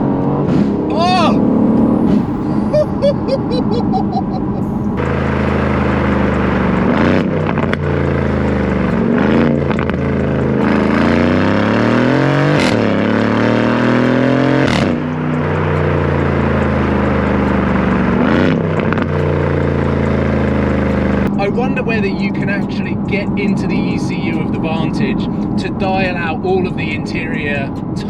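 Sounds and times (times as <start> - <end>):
car engine revving in cabin: 0.0 - 28.0
exhaust crack on upshift: 0.0 - 28.0.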